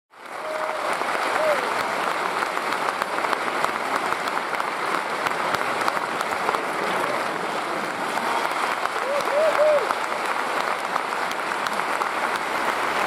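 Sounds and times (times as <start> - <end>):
crowd applauding: 0.1 - 13.0.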